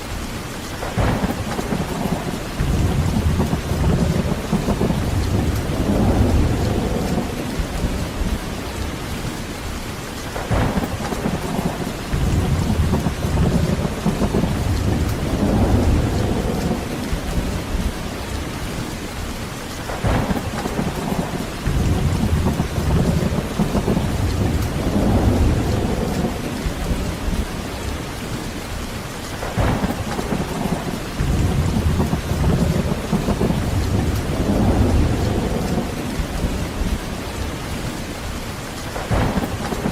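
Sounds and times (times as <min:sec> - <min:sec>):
heavy rain falling: 0:00.0 - 0:39.9
sharp thunder cracks: 0:00.8 - 0:08.5, 0:10.4 - 0:18.3, 0:19.9 - 0:27.6, 0:29.4 - 0:37.2, 0:39.0 - 0:39.9
rolling thunder: 0:00.8 - 0:09.5, 0:10.3 - 0:39.9.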